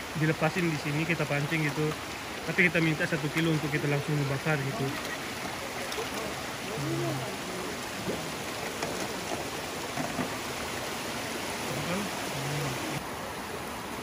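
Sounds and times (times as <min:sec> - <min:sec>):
stream running over stones: 0:00.0 - 0:14.0.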